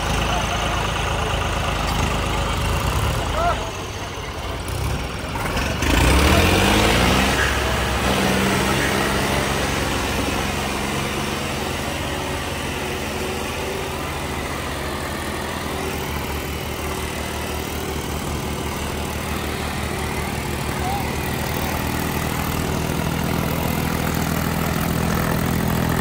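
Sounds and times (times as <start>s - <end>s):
diesel tractor engines revving: 0.0s - 26.0s.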